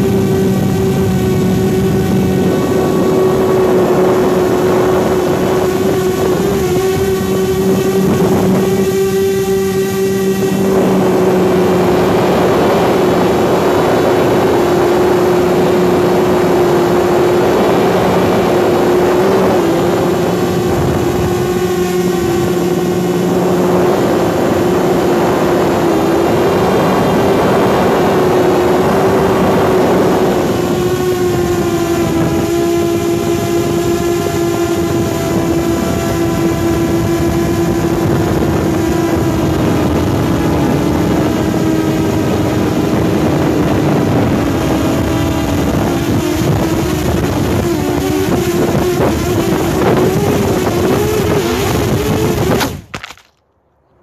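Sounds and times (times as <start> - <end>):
rushing prop wash: 0.0 - 52.9
drone propellers whining: 0.0 - 54.0.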